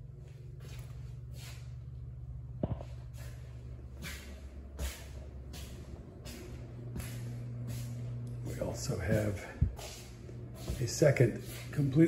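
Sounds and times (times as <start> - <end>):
low room hum: 0.0 - 12.0
soft swishes of walking: 0.2 - 1.8, 2.8 - 12.0.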